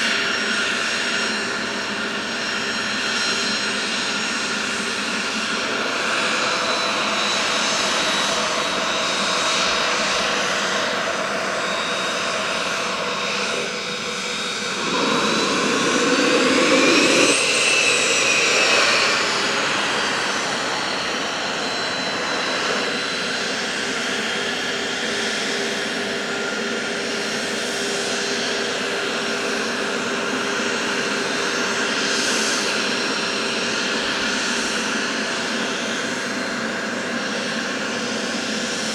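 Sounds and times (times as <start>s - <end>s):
jet engine whine: 0.0s - 38.9s.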